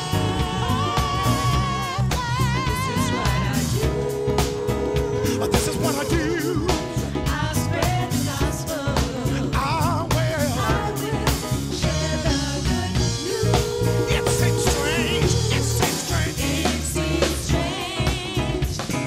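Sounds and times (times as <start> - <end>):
backing choir singing: 0.0 - 19.0
drum kit beat: 0.0 - 19.0
grand piano: 0.0 - 19.0
lead singer: 0.0 - 19.0.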